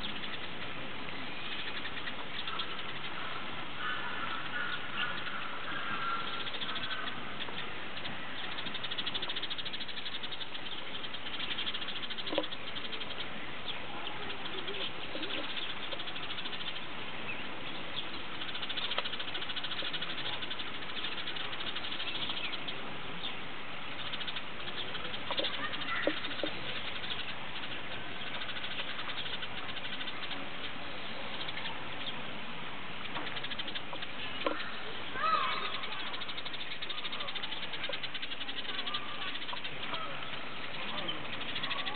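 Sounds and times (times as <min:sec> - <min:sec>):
sparrows chirping: 0:00.0 - 0:41.9.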